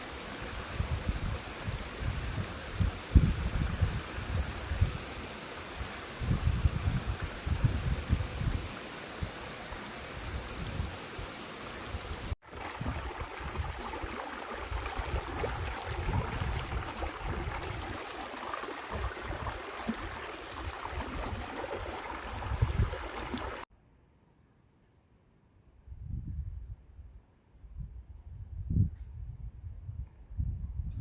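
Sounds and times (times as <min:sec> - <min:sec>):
wind buffeting microphone: 0:00.4 - 0:11.2, 0:11.9 - 0:23.6, 0:27.6 - 0:31.0.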